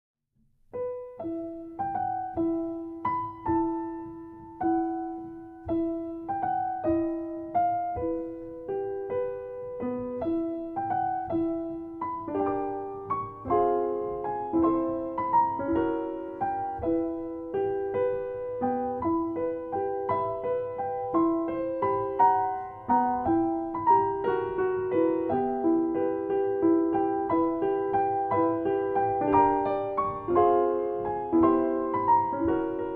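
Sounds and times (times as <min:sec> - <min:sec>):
slow solo piano melody: 0:00.6 - 0:32.9.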